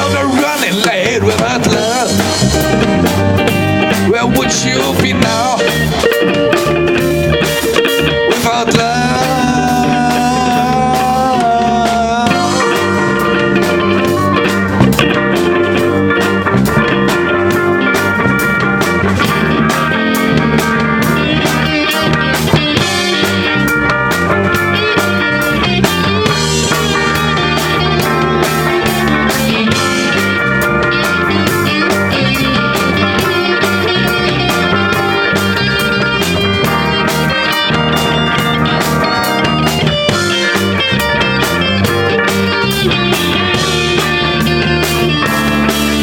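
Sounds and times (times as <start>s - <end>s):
instrumental rock music: 0.0s - 46.0s.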